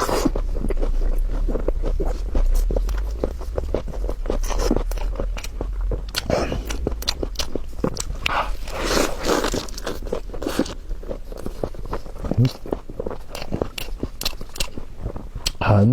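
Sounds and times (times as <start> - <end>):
person chewing food: 0.0 - 15.6
steady low hum: 0.0 - 15.9.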